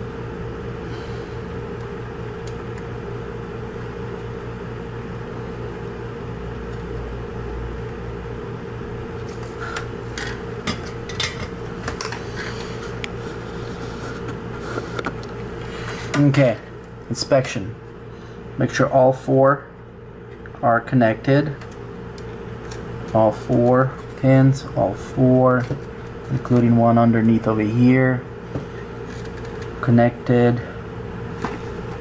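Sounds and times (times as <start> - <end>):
fan-like electrical hum: 0.0 - 32.0.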